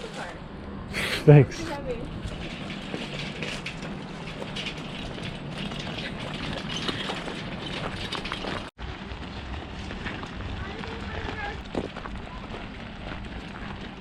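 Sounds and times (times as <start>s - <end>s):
cart wheels rumbling: 1.4s - 14.0s.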